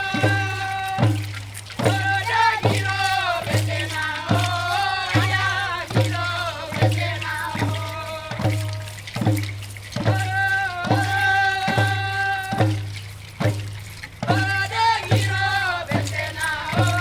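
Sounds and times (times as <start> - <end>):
group singing: 0.0 - 9.3, 10.0 - 12.9, 14.2 - 17.0.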